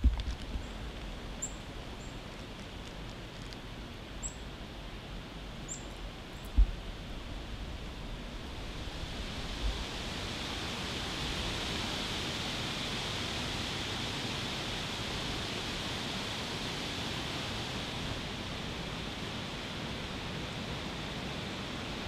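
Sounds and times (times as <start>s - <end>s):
wind through leafy trees: 0.0s - 22.0s.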